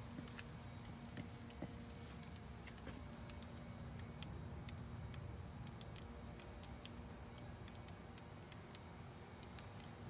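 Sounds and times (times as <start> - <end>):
foam ticking and crackling: 0.0 - 10.0
mud dripping: 0.0 - 10.0.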